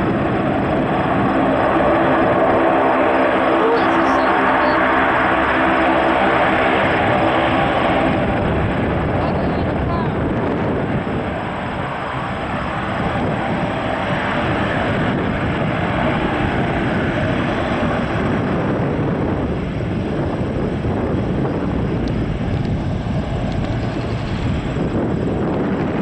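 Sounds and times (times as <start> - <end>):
military aircraft roaring overhead: 0.0 - 26.0
wind rumbling on microphone: 0.0 - 26.0.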